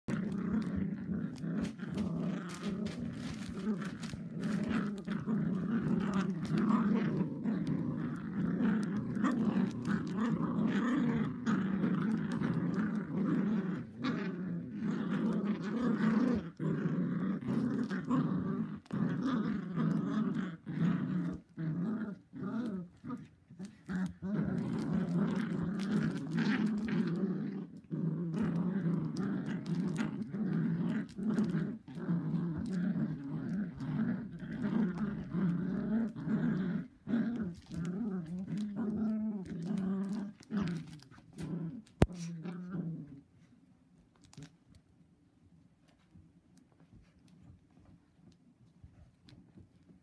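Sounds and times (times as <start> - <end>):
puppies growling: 0.0 - 43.6.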